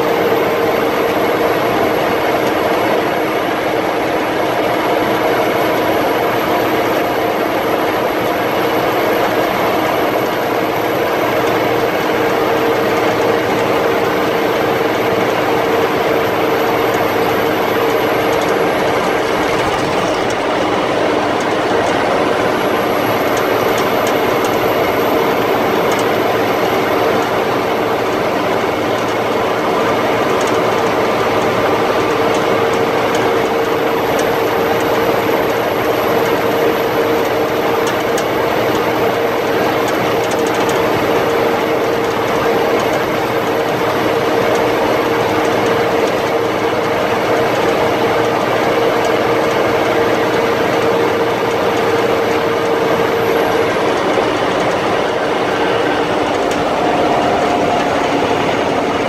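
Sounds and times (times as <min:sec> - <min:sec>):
road noise: 0:00.0 - 0:59.0
truck engine humming and whining: 0:00.0 - 0:59.0.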